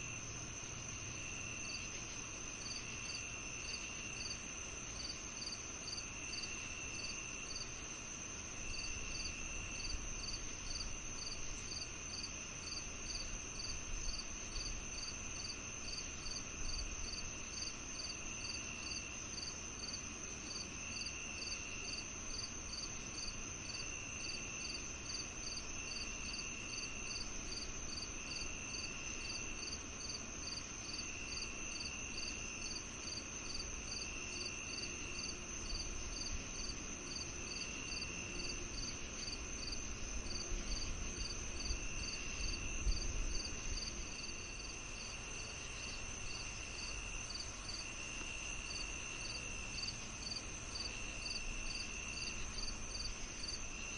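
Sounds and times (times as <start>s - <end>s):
cricket chirping evenly: 0.0s - 53.9s
high steady insect trill: 0.0s - 53.9s.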